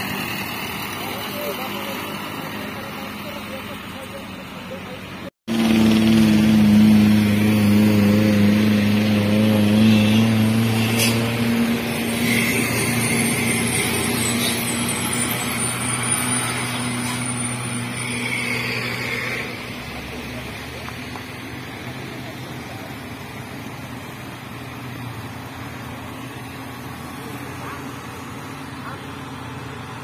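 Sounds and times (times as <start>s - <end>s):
vehicle engines climbing a hill: 0.0s - 30.0s.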